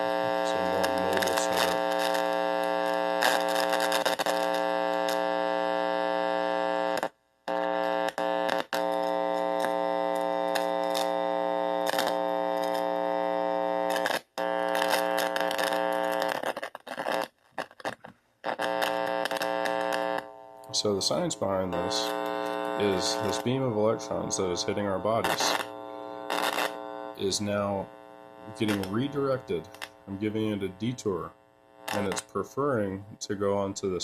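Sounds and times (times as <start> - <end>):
amplifier electrical buzz: 0.0 - 34.0.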